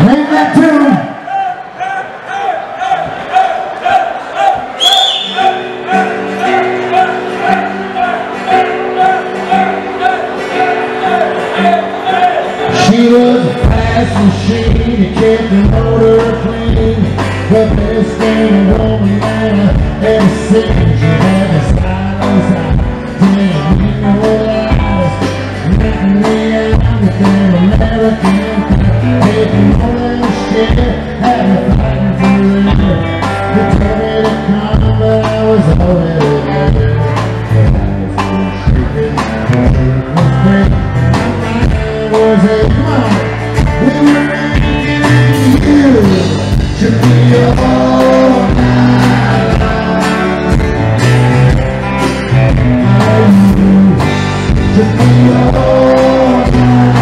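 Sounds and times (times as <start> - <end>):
rock band playing live: 0.0 - 57.0
person singing: 5.3 - 57.0.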